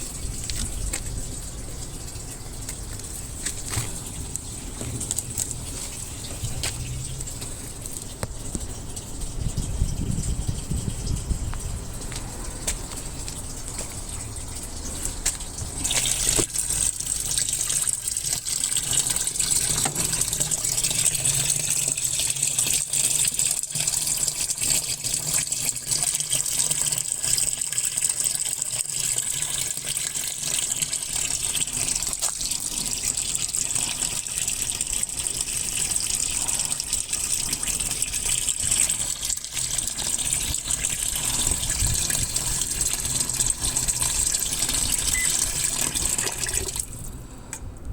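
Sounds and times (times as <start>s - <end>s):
water gushing into washing machine: 0.0s - 47.3s.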